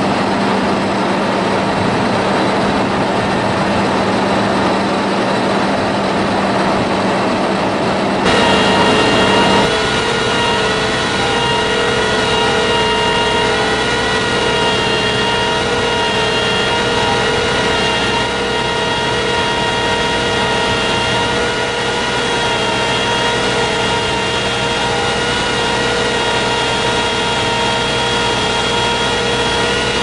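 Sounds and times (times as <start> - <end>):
engine running: 0.0 - 30.0
high-pitched whine: 0.0 - 30.0.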